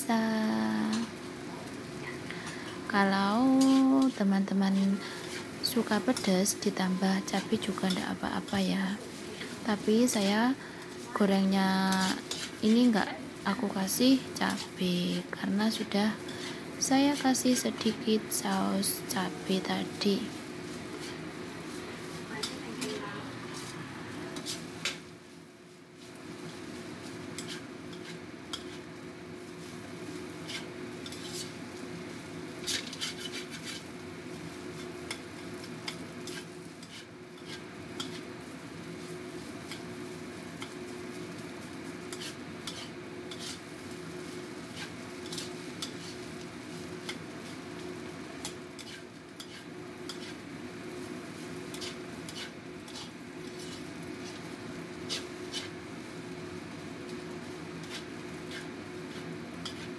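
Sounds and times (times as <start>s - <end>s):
food sizzling: 0.0s - 59.9s
spatula scraping a wok: 2.2s - 11.2s, 11.8s - 25.3s, 25.9s - 59.9s.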